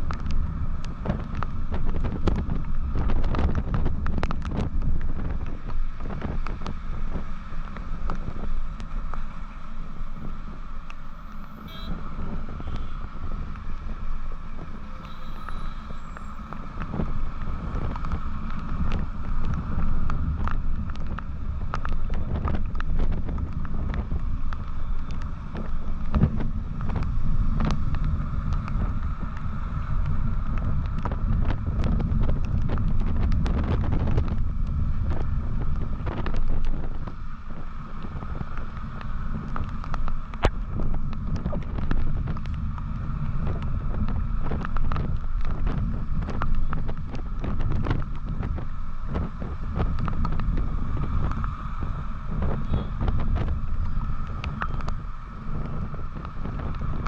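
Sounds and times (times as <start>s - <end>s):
knocks and ticks from road: 0.0s - 57.0s
motorcycle engine and tyre noise: 0.0s - 57.0s
wind buffeting microphone: 0.0s - 57.0s.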